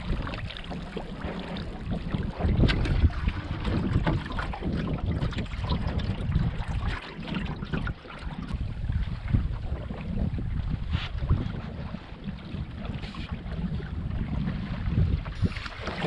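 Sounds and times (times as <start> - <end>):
water splashing along canoe hull: 0.0 - 16.0
wind buffeting microphone: 0.0 - 16.0.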